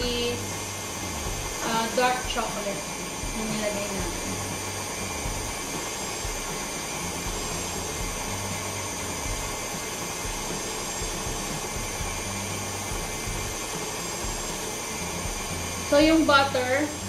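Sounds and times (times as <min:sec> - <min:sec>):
stand mixer whisking: 0:00.0 - 0:17.0.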